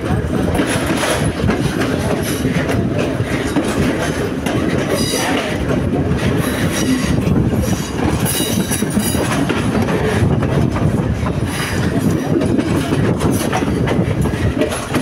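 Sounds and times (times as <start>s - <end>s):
rapid clicking over track: 0.0s - 15.0s
train wheels rumbling on rails: 0.0s - 15.0s.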